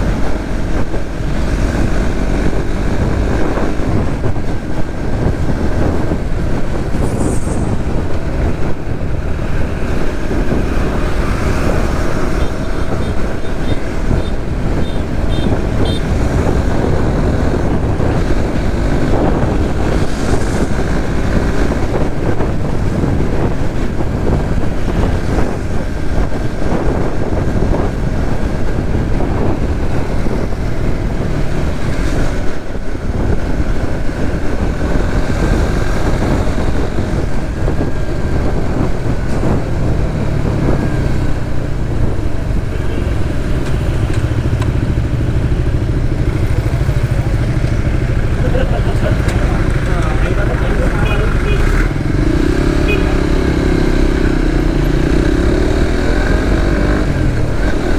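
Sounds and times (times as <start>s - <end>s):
motorcycle engine riding: 0.0s - 57.9s
wind over microphone: 0.0s - 57.9s.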